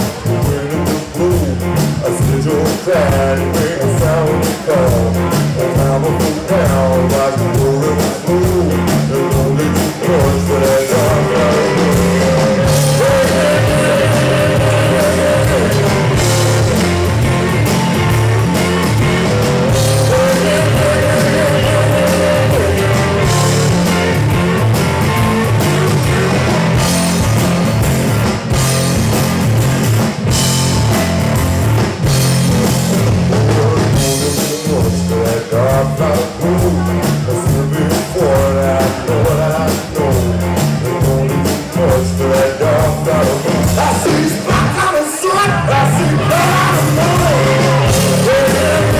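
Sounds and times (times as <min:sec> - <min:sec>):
live blues rock band: 0:00.0 - 0:48.9.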